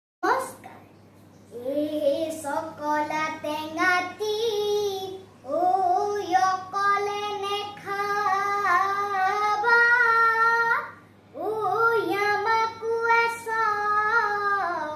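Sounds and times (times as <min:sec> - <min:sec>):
child singing: 0:01.5 - 0:14.9.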